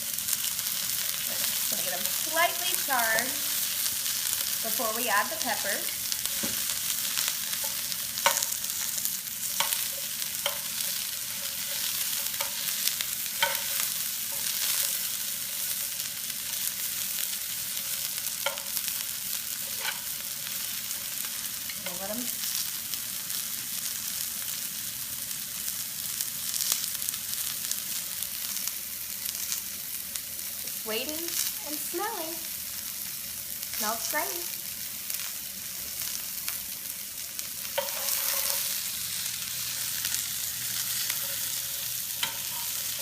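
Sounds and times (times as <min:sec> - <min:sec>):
onions sizzling in oil: 0:00.0 - 0:43.0.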